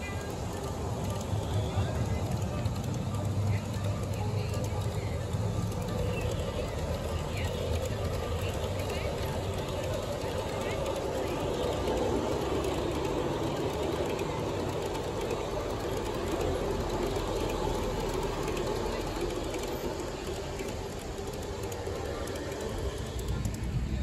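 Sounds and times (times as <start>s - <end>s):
faint wheel clicking: 0.0s - 24.0s
model train wheels rumbling: 0.0s - 24.0s.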